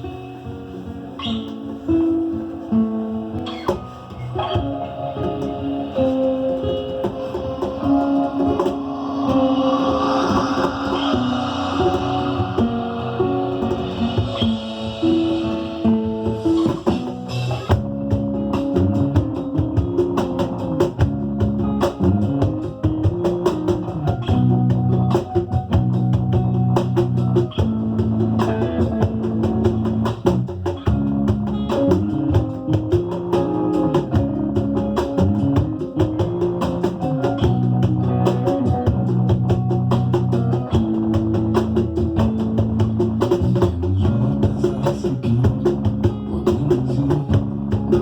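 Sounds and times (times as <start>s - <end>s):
held pitched notes: 0.0s - 44.6s
samba percussion rhythm: 0.0s - 48.0s.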